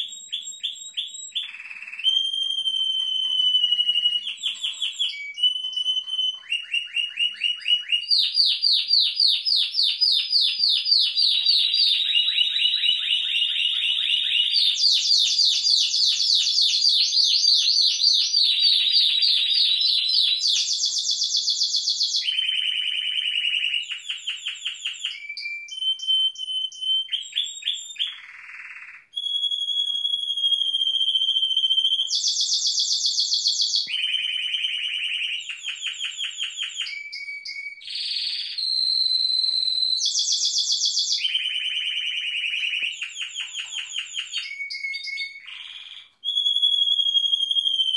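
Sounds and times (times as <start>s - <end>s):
canaries singing trills: 0.0s - 47.9s.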